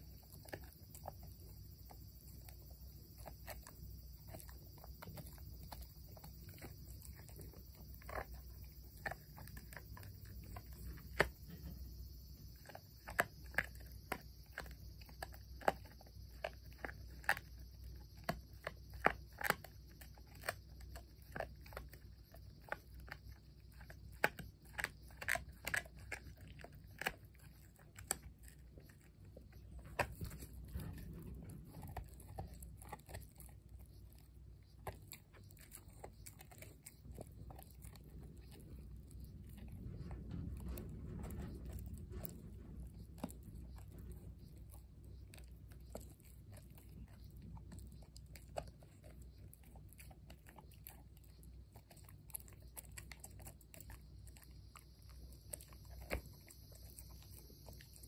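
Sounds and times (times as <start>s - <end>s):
low steady hum: 0.0s - 58.0s
puppy chewing a hard treat: 0.0s - 58.0s.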